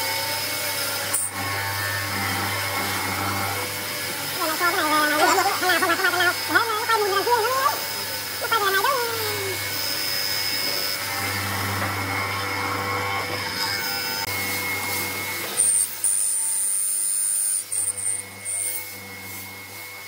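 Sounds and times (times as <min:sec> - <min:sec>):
mortiser motor humming: 0:00.0 - 0:20.0.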